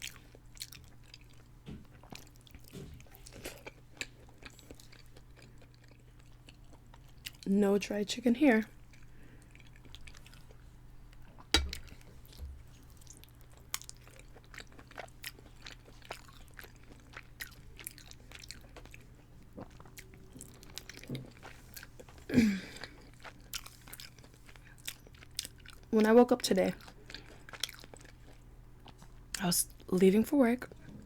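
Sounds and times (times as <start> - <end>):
person chewing food: 0.0 - 7.5, 8.8 - 26.0, 26.7 - 29.4.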